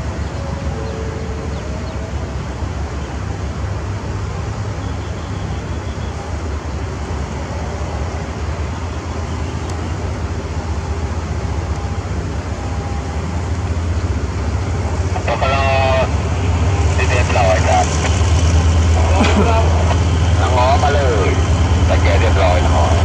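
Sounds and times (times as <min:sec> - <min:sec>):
locomotive engine humming: 0:00.0 - 0:23.0.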